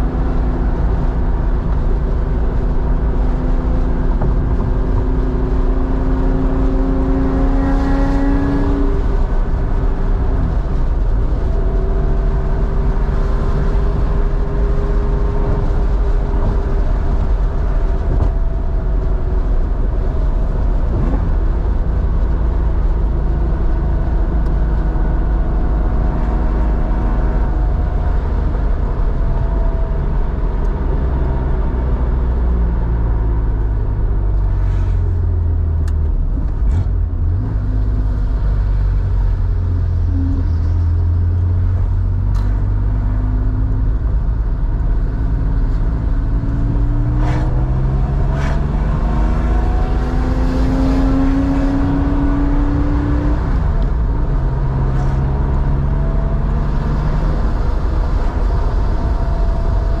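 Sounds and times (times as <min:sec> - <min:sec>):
car engine accelerating: 0:00.0 - 1:00.0.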